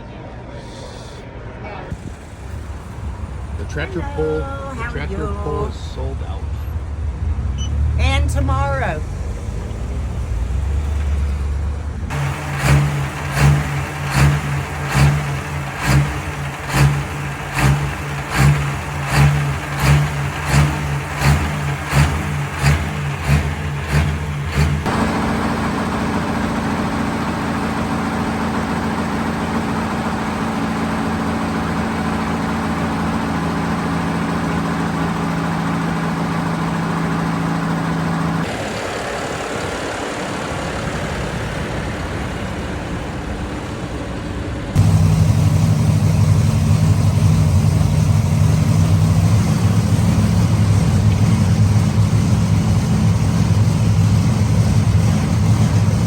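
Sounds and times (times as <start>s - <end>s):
heavy engine running: 1.9s - 56.0s.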